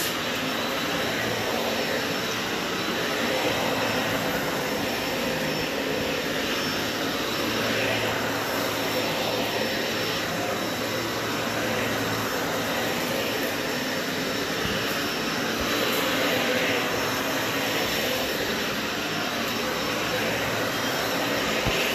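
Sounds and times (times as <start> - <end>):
vacuum cleaner on carpet: 0.0 - 21.9.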